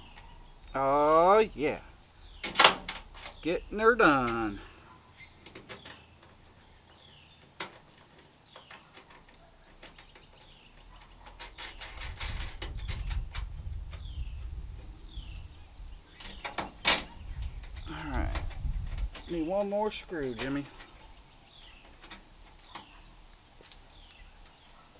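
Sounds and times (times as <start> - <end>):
bird chirping: 0.0 - 24.9.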